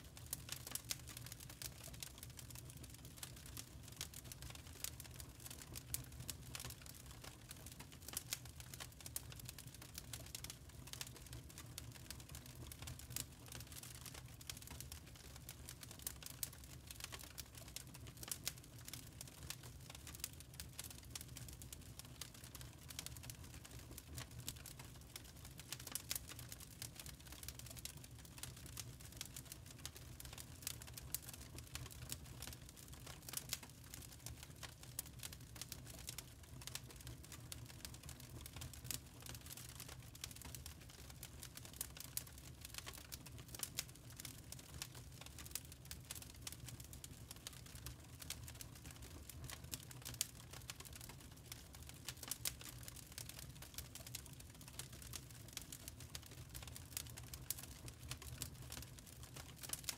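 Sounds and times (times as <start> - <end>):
burning charcoal crackling: 10.3 - 59.9.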